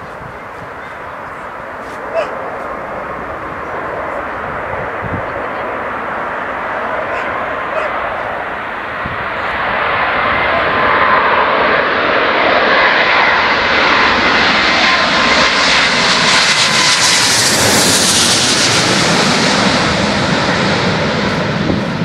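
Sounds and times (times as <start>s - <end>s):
faint jet engine whine: 0.0s - 22.0s
jet airliner passing overhead: 0.0s - 22.0s.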